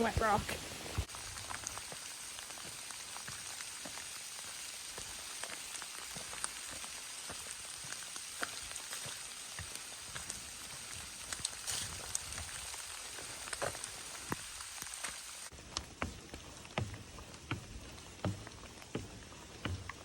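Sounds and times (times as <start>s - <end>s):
raindrops ticking: 0.0s - 20.0s
steady rain hiss: 0.0s - 20.0s.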